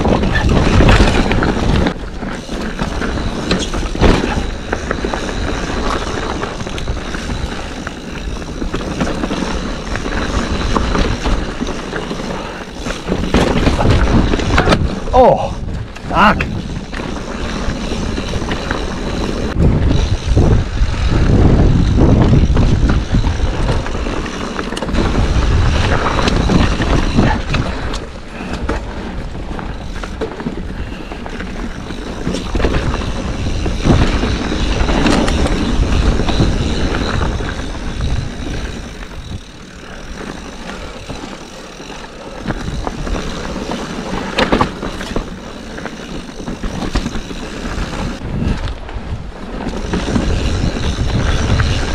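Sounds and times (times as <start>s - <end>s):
bike clattering over rocks: 0.0s - 15.3s, 21.4s - 48.2s
tyres running over dirt and rock: 0.0s - 51.9s
wind rushing over microphone: 0.0s - 51.9s.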